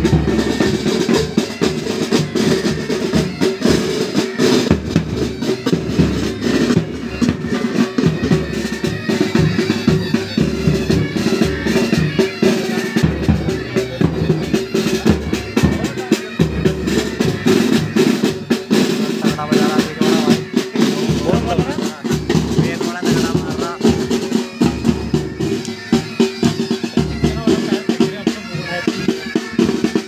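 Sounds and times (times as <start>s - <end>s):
bagpipes: 0.0s - 30.0s
rapid side drum strokes: 0.0s - 30.0s.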